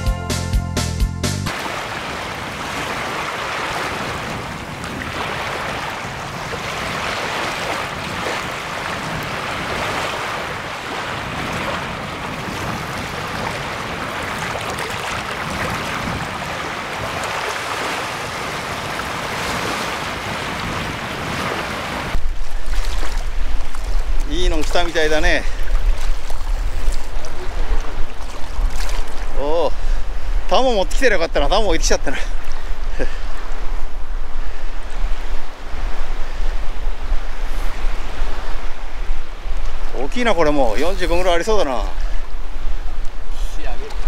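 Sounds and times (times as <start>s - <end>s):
wind: 0.0s - 44.0s
small waves lapping: 1.5s - 44.0s.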